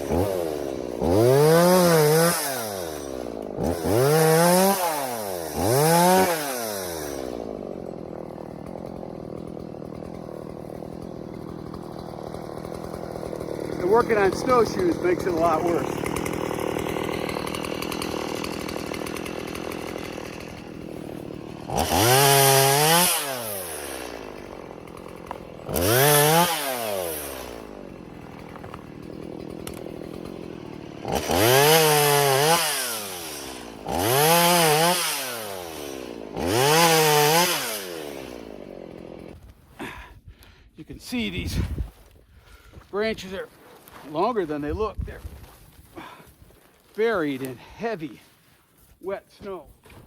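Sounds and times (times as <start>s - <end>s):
chainsaw idling and revving: 0.0s - 48.4s.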